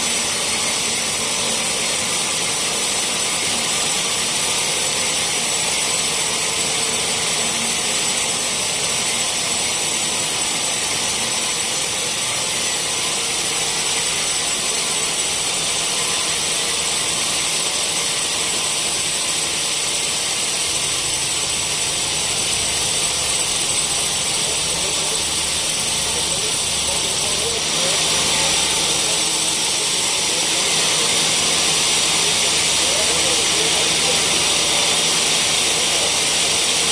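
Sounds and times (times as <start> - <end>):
sawmill saw running: 0.0 - 36.9.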